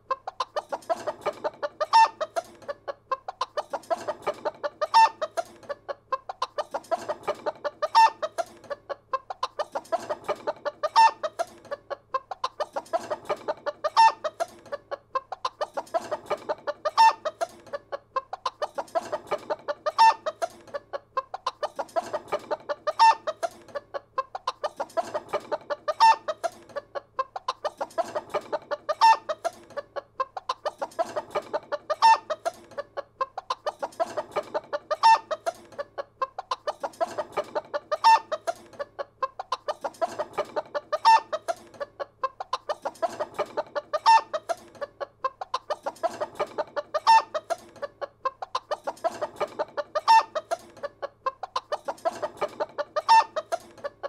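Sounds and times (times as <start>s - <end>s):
chicken squawk: 0.0s - 8.5s, 9.1s - 20.5s, 21.2s - 47.6s, 48.2s - 53.7s
chickens clucking: 0.0s - 54.0s.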